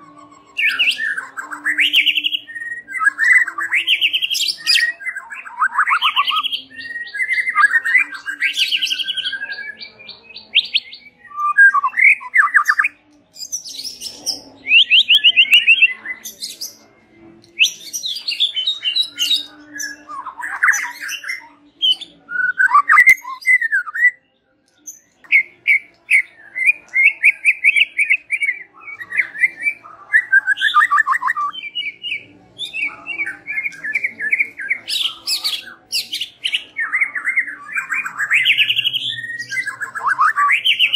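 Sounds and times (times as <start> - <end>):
bird singing fast trills and whistles: 0.0 - 16.8, 17.6 - 24.2, 24.9 - 40.9.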